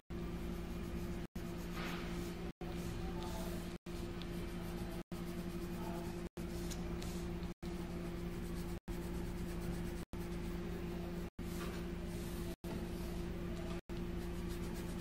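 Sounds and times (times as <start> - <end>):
low electrical hum: 0.0 - 15.0
pencil shading on paper: 0.1 - 11.3, 13.8 - 15.0.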